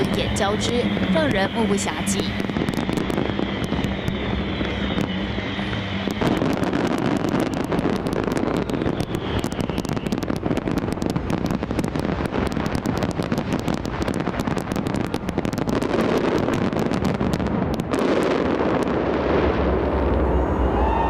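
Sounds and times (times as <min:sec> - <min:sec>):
fireworks bursting: 0:00.0 - 0:21.0
fireworks crackling: 0:00.0 - 0:21.0
low rumble: 0:00.0 - 0:21.0.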